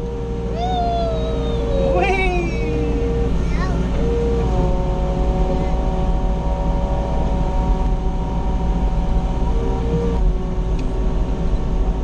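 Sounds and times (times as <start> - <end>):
diesel engine rumble: 0.0 - 12.0
engine whine: 0.0 - 12.0.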